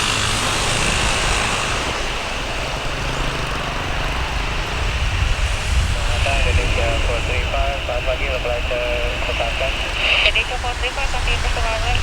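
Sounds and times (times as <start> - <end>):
high whine: 0.0 - 12.0
jet engines roaring: 0.0 - 12.0.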